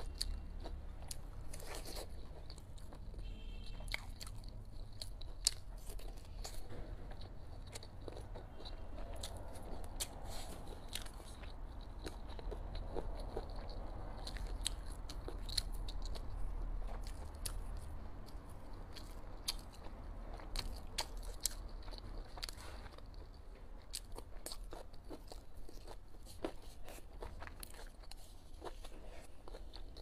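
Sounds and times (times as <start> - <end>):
person chewing crunchy vegetables: 0.0 - 30.0.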